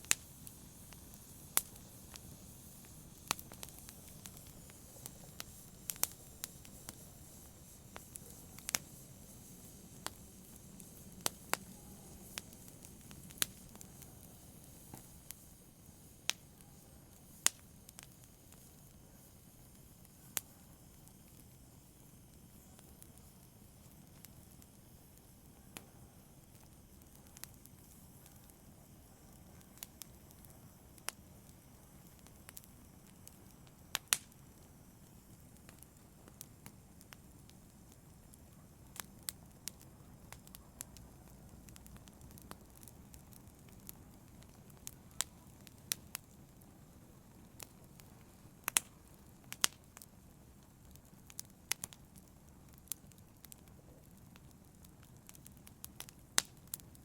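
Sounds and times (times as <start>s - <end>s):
wood fire pops and snaps: 0.0s - 15.5s, 17.2s - 18.7s, 26.5s - 46.8s, 47.5s - 57.0s
soft fire hiss: 0.0s - 57.0s.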